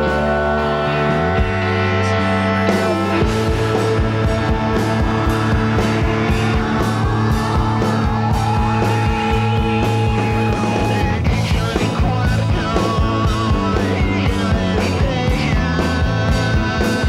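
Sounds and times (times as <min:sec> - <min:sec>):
steady drum beat: 0:00.0 - 0:17.0
sustained rock guitar: 0:00.0 - 0:17.0.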